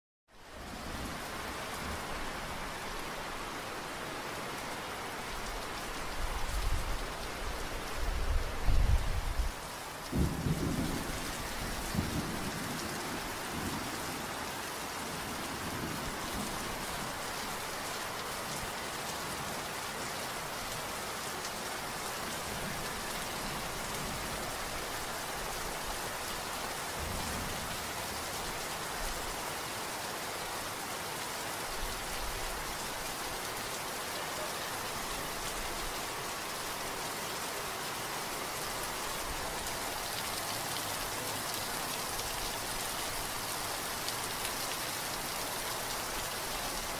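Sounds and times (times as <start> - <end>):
steady rain falling: 0.3 - 46.9.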